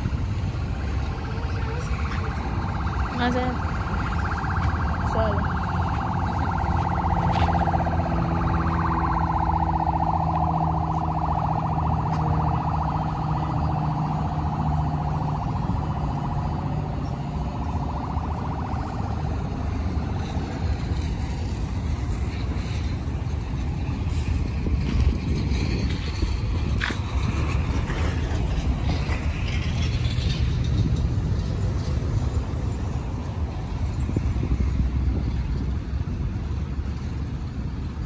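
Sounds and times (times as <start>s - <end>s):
wavering siren-like tone: 0.0s - 34.8s
highway traffic rumble: 0.0s - 38.0s.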